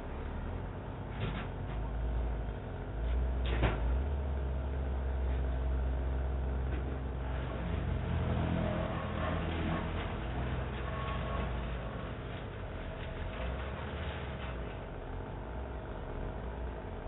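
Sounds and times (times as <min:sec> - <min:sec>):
large engine running: 0:00.0 - 0:17.0.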